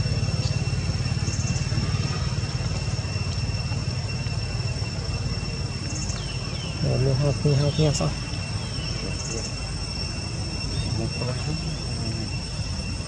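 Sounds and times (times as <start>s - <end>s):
insect drone: 0.0s - 13.0s
low engine-like rumble: 0.0s - 13.0s.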